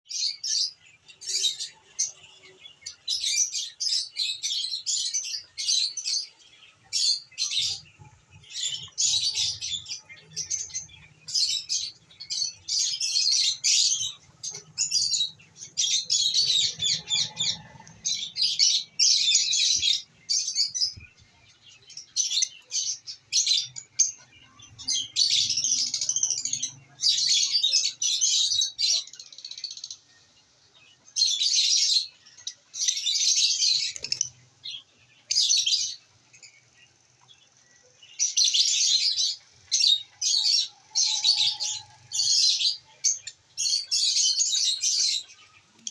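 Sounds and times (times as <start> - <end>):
lovebirds chattering: 0.1 - 45.9.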